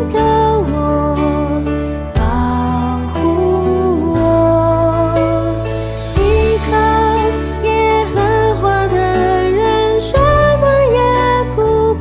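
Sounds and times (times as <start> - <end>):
person singing worship song: 0.0 - 12.0
sustained accompaniment with bass: 0.0 - 12.0.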